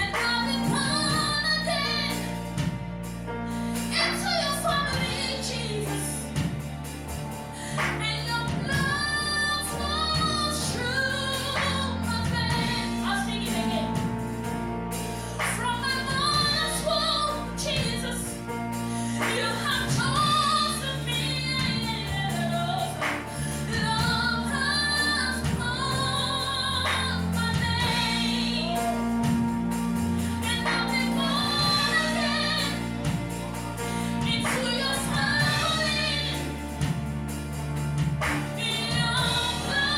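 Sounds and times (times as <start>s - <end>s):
woman singing: 0.0s - 2.9s, 3.9s - 6.6s, 7.6s - 14.7s, 15.4s - 37.1s, 38.3s - 39.9s
band accompaniment: 0.0s - 39.9s.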